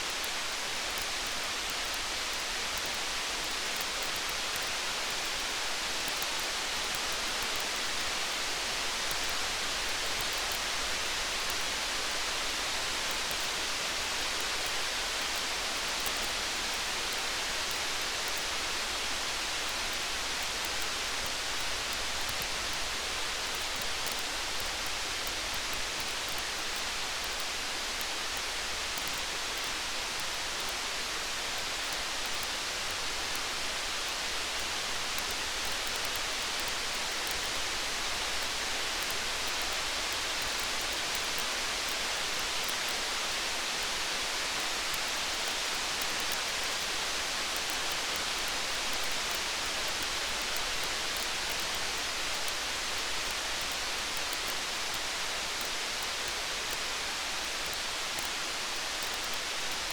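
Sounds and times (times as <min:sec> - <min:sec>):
faint fine ticks: 0:00.0 - 0:59.9
steady rain hiss: 0:00.0 - 0:59.9.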